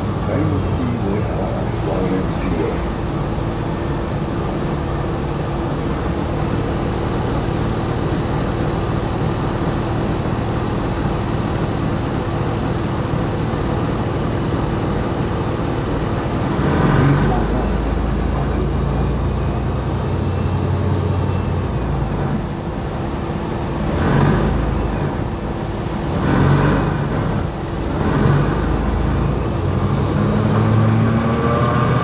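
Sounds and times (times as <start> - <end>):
bus running and road noise: 0.0 - 32.0.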